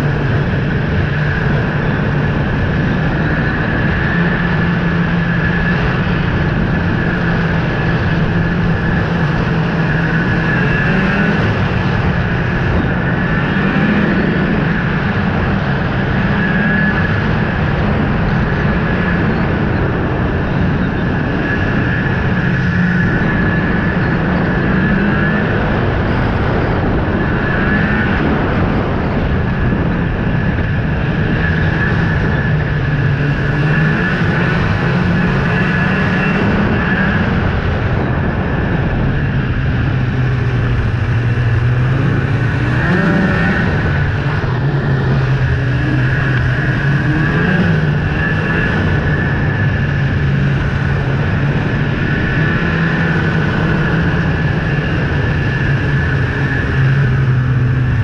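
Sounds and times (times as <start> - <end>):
high whine: 0.0 - 58.0
snowmobile engine running: 0.0 - 58.0.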